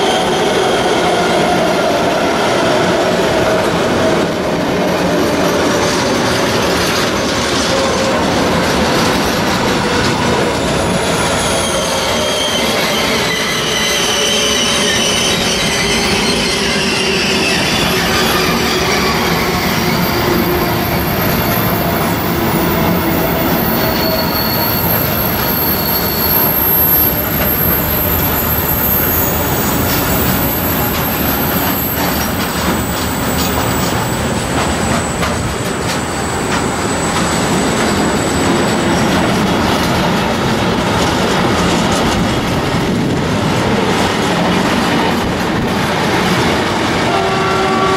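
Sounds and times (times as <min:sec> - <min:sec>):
train wheels squealing and clattering: 0:00.0 - 0:47.9.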